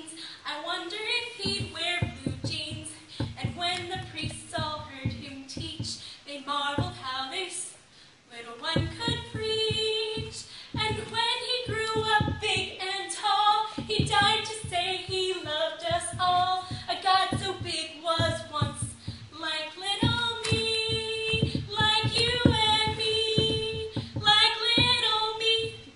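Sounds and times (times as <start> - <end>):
girl singing: 0.0 - 25.9.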